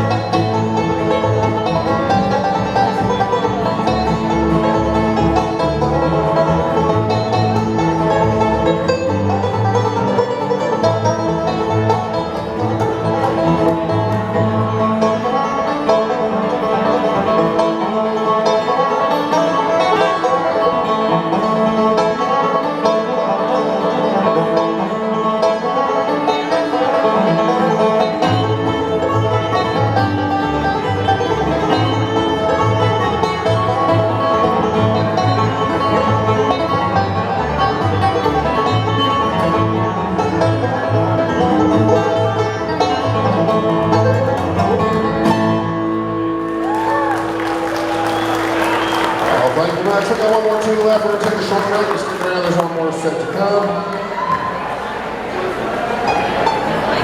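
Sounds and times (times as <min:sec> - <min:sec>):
banjo picking: 0:00.0 - 0:51.7
guitar: 0:00.0 - 0:52.9.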